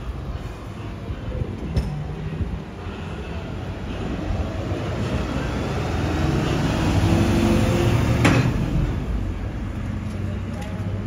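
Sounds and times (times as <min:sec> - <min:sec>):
tram rumbling past: 0:00.0 - 0:11.0.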